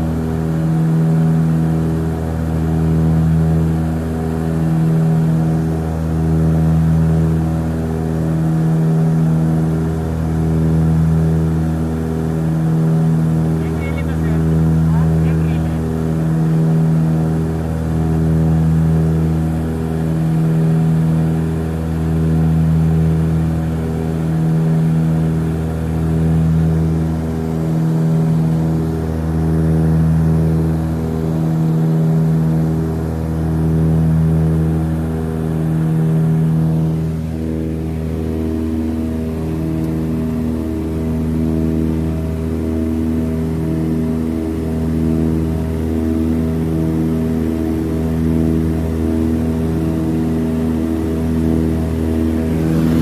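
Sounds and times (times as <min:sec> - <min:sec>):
aircraft propeller drone: 0:00.0 - 0:53.0.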